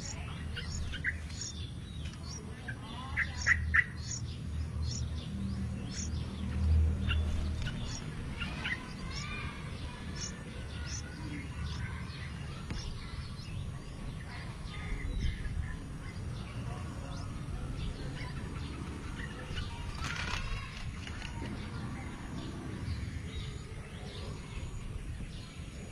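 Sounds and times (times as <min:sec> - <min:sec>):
high bird chirps and twittering: 0:00.0 - 0:25.9.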